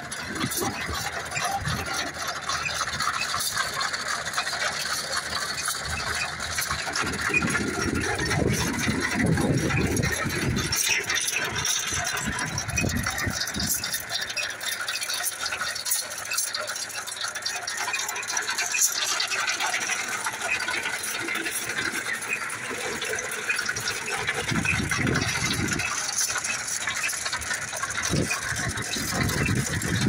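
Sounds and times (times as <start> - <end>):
metallic rattling and clicking: 0.0 - 30.0
tractor engine running: 0.0 - 30.0.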